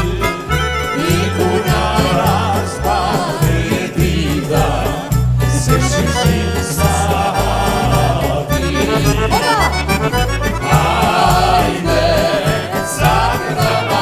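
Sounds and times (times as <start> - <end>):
heavy bass beat: 0.0 - 14.0
ornamented singing: 0.0 - 14.0.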